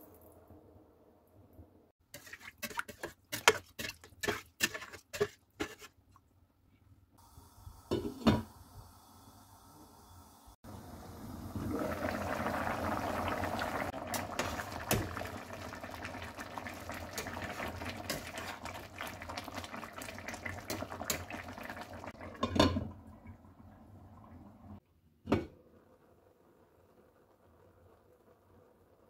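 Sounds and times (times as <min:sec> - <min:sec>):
pot boiling and bubbling: 0:02.0 - 0:06.1, 0:07.2 - 0:24.8, 0:25.4 - 0:29.0.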